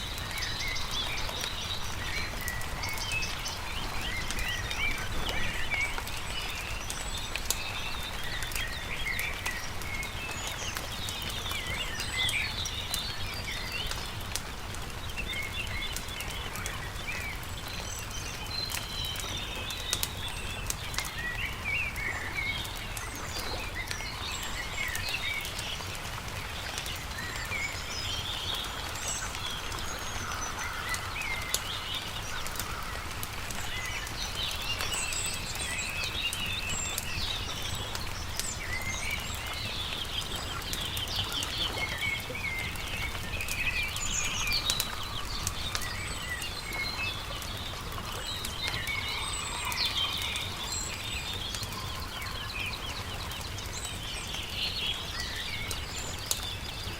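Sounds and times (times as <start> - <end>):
campfire crackling and popping: 0.0 - 56.9
songbirds chirping and trilling: 0.0 - 56.9.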